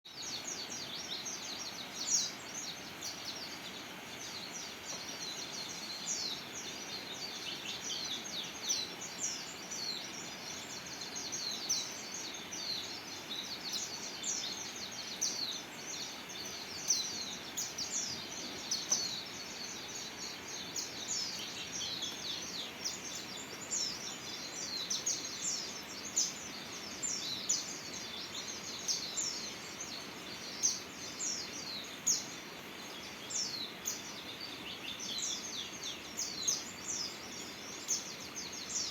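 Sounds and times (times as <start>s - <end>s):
birds twittering: 0.0s - 38.9s
steady background hiss: 0.1s - 38.9s.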